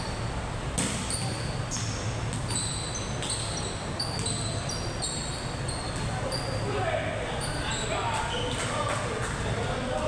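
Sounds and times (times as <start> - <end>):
sneakers squeaking on floor: 0.0 - 8.7.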